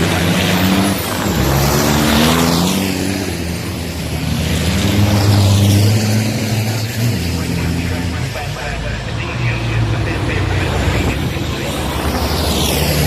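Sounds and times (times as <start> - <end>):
racing truck engines passing: 0.0 - 13.0.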